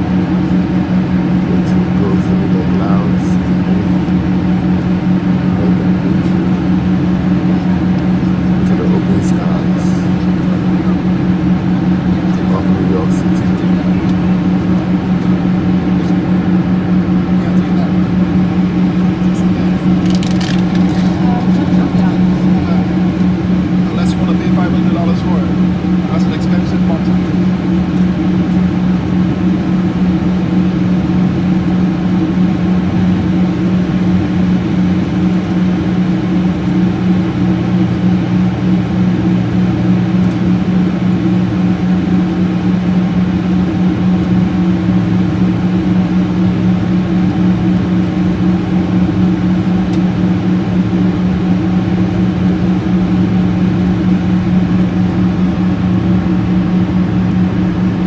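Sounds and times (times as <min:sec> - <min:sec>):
jet engine cabin hum: 0:00.0 - 0:58.0.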